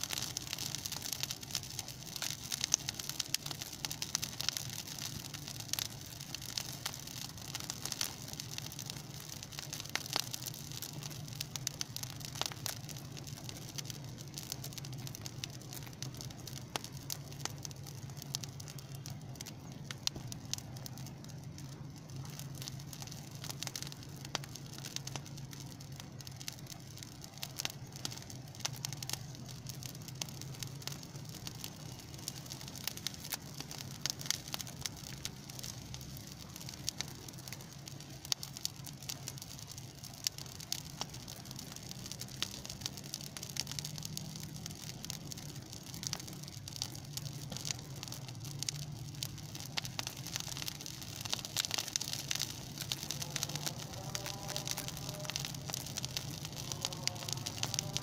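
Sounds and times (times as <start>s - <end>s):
brush fire crackling and popping: 0.0s - 58.0s.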